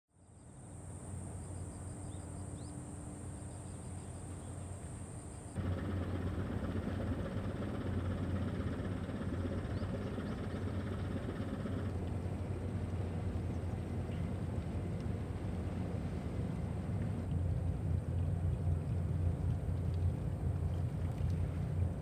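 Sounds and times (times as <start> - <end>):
ship engines droning: 0.6 - 22.0.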